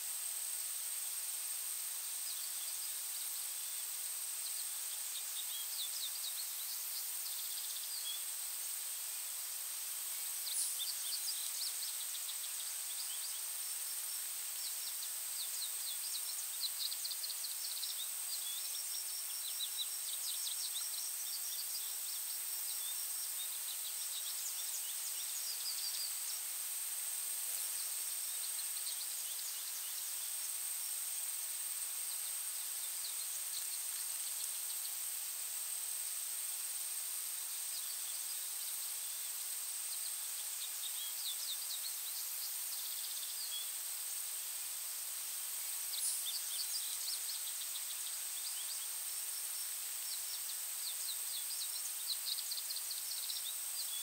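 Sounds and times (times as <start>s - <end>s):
soft steady hiss: 0.0s - 54.0s.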